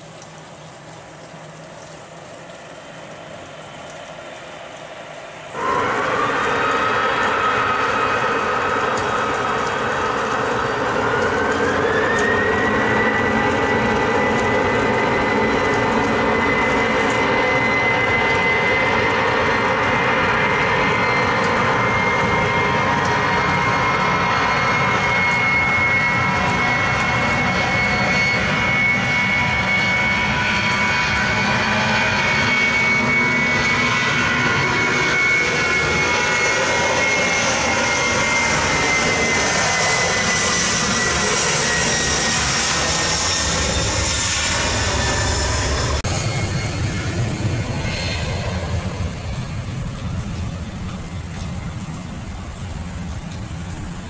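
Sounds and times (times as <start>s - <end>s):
jet engines roaring at takeoff: 0.0s - 54.0s.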